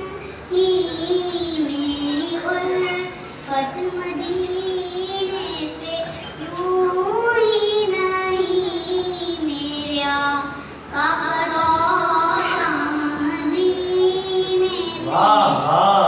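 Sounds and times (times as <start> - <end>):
child singing: 0.0 - 15.1.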